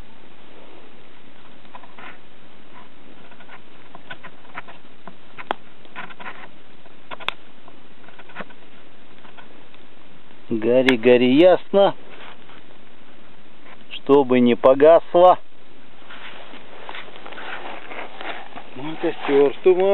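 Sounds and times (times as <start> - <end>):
campfire crackling: 0.0 - 19.9
faint steady hiss: 0.0 - 19.9.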